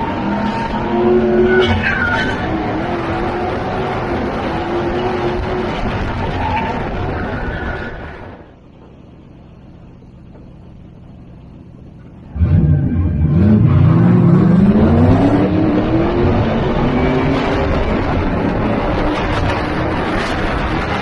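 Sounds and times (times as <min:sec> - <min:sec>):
truck engine revving: 0:00.0 - 0:08.4, 0:12.2 - 0:21.0.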